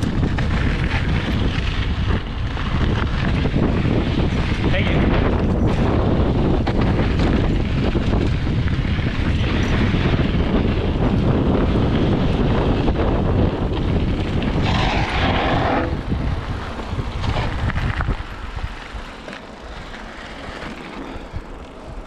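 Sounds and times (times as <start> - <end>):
tyres rolling over dirt: 0.0 - 22.0
wind buffeting microphone: 0.0 - 22.0.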